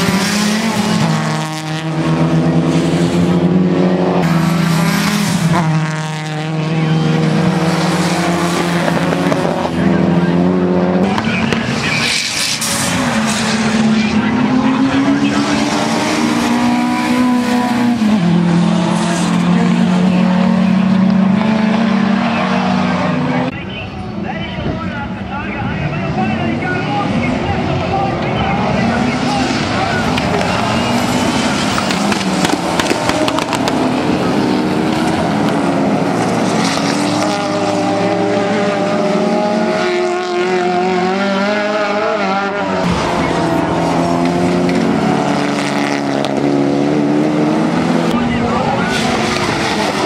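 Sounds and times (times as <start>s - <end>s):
racing car engines: 0.0s - 50.0s.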